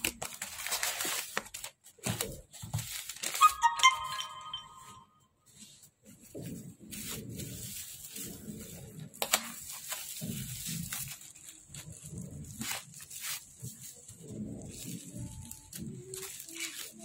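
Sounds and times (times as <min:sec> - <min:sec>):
bubble wrap crinkling and tearing: 0:00.0 - 0:04.0, 0:05.6 - 0:17.0.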